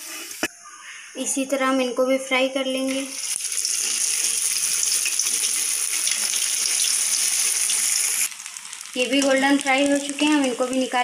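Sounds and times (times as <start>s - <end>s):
hot oil sizzling: 0.0s - 0.5s, 1.2s - 11.0s.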